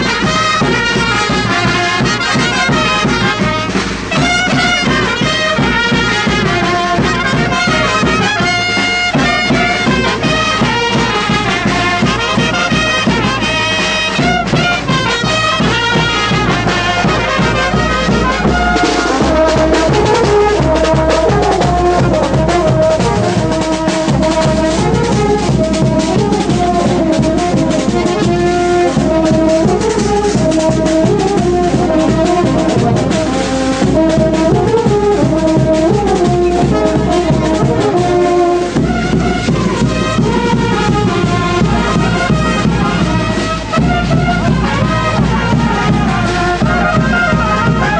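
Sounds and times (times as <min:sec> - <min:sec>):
brass band dance tune: 0:00.0 - 0:47.9.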